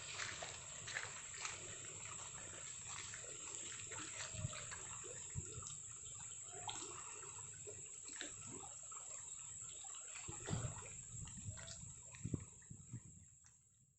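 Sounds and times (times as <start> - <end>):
water drops splashing and dripping: 0.0 - 12.7.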